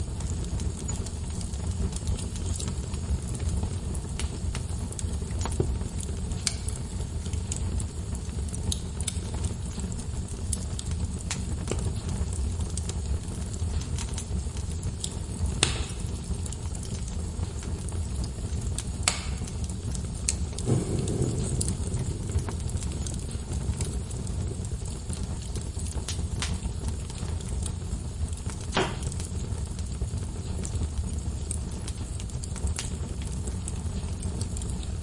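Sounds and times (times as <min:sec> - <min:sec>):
burning logs rumbling: 0:00.0 - 0:35.0
fire popping and snapping: 0:00.0 - 0:35.0.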